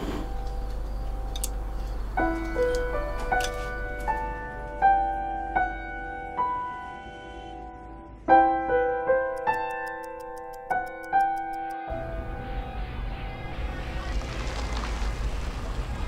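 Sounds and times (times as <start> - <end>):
soft piano notes ringing: 0.0 - 13.6.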